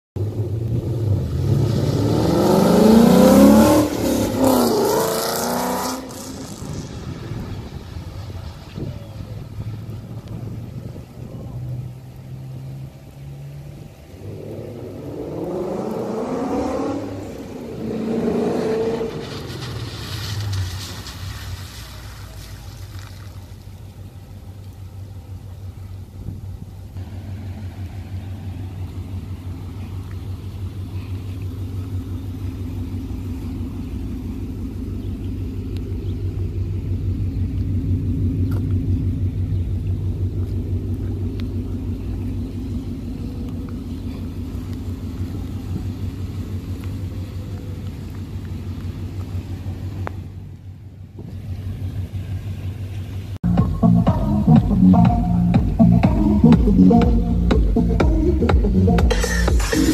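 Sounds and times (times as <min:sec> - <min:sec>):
car engine revving and idling: 0:00.2 - 0:59.9.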